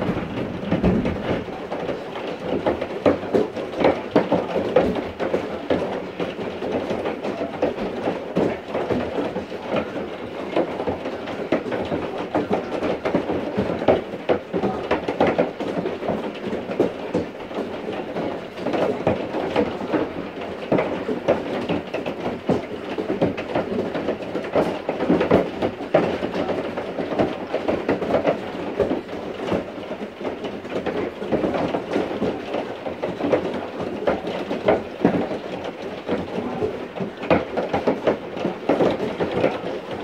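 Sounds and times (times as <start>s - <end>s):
heavy rain beating down: 0.0s - 40.0s.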